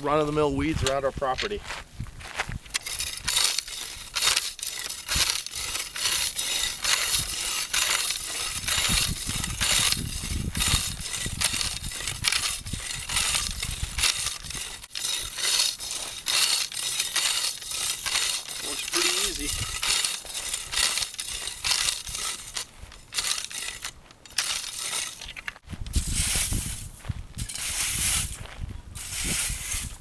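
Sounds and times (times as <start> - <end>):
hoe scraping stony soil: 0.0 - 30.0.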